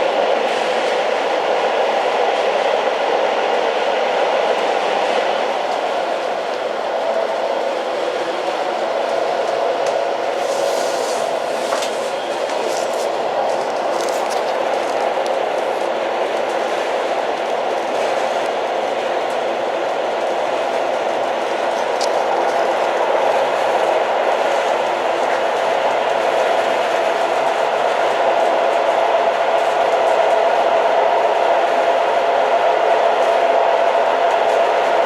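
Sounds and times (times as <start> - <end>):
train running: 0.0 - 35.0.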